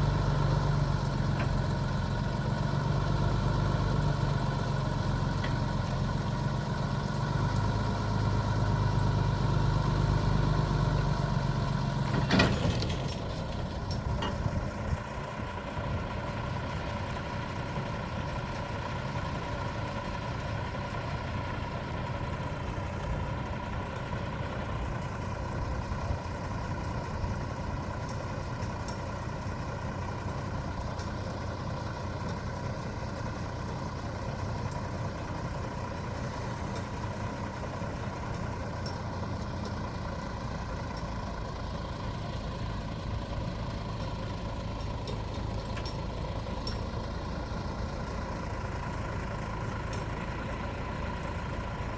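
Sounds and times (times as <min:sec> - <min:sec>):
engine cutting out clunk: 0:00.0 - 0:17.2, 0:20.8 - 0:51.9
heavy engine idling: 0:00.0 - 0:51.9.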